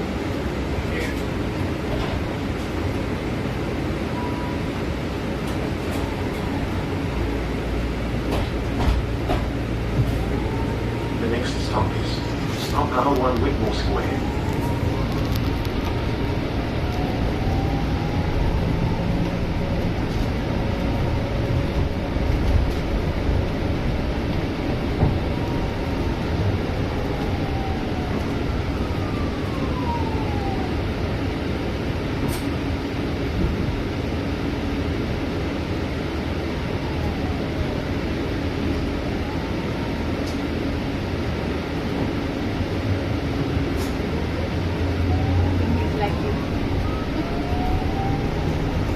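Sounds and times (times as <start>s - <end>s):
bus engine and road rumble: 0.0s - 48.9s.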